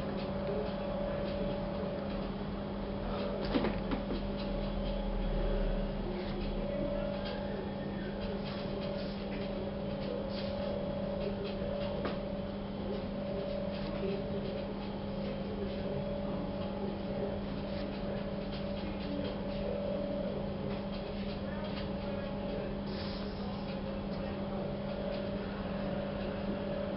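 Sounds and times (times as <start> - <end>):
low mechanical hum: 0.0 - 26.9.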